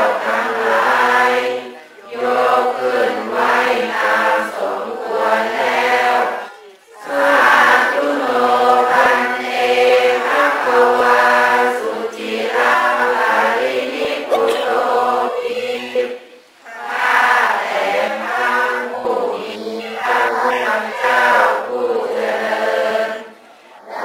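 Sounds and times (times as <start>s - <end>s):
group of voices chanting: 0.0s - 24.0s.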